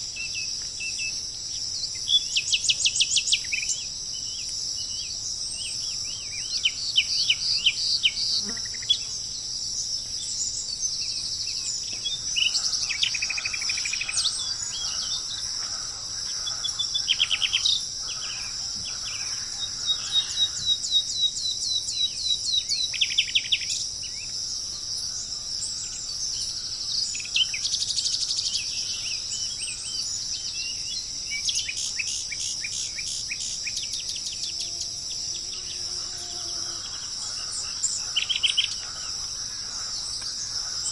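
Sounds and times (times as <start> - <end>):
high-pitched insect drone: 0.0 - 21.4, 22.2 - 40.9
songbirds trilling and chirping: 0.0 - 40.9.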